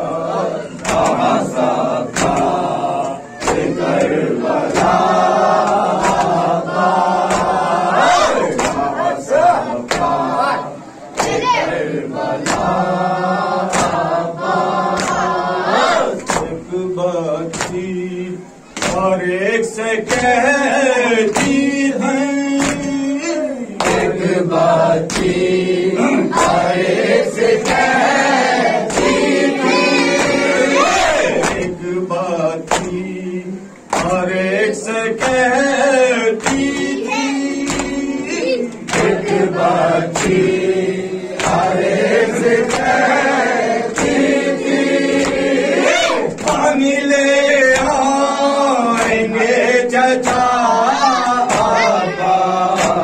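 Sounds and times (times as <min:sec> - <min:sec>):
male voices chanting response: 0:00.0 - 0:53.0
rhythmic hand slaps on chest: 0:00.0 - 0:53.0.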